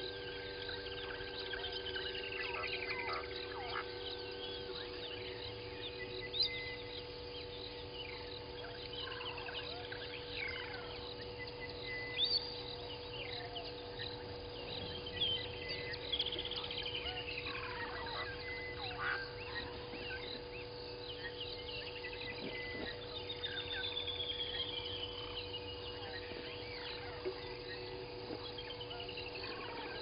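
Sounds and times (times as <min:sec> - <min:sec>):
electrical hum: 0:00.0 - 0:30.0
wild birds calling: 0:00.0 - 0:30.0.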